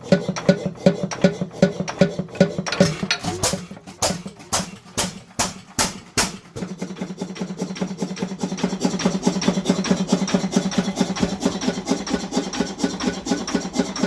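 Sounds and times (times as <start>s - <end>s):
rhythmic clatter: 0.0s - 14.0s
stationary engine running: 0.0s - 14.0s.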